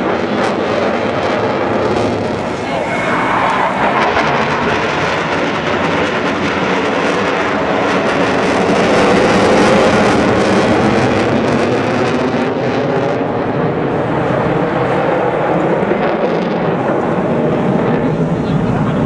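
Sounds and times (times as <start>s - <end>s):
fighter jet passing overhead: 0.0s - 19.0s.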